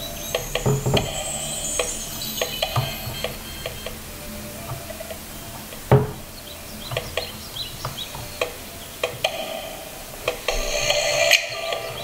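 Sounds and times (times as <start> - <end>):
electronic beeps and chirps: 0.0 - 12.0.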